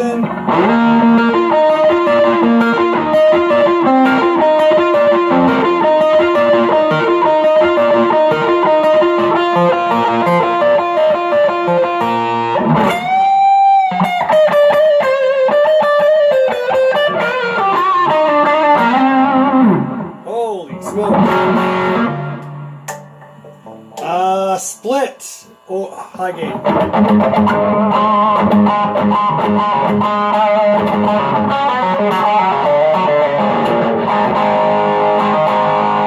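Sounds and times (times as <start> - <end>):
electric guitar lead lines: 0.0 - 36.0.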